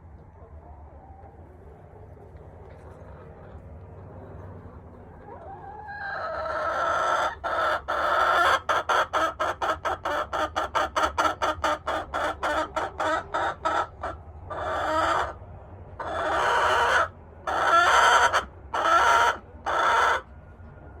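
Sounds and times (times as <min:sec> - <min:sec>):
chicken clucking and squawking: 0:00.1 - 0:20.3.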